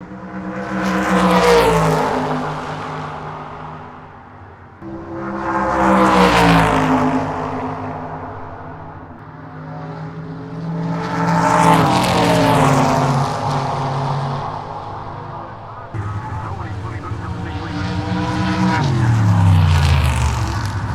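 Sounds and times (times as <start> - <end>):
race car passing at speed: 0.0 - 20.9.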